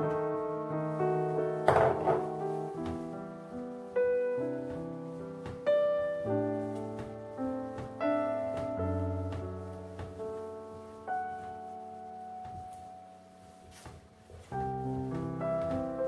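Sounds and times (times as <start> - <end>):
piano notes and chords: 0.0 - 16.0.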